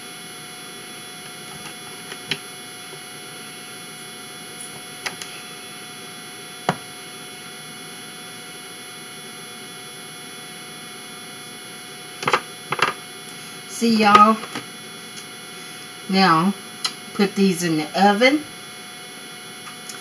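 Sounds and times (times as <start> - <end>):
electrical hum and hiss: 0.0 - 20.0.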